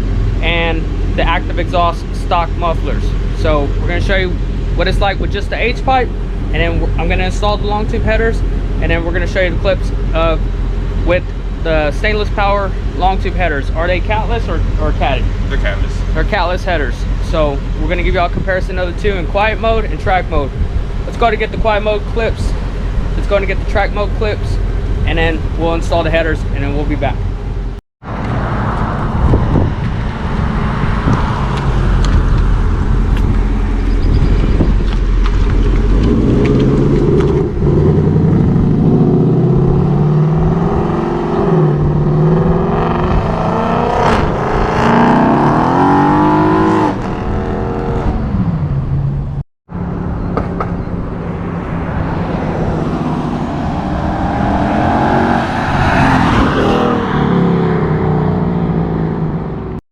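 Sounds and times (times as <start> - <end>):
car engine idling and revving: 0.0 - 59.8.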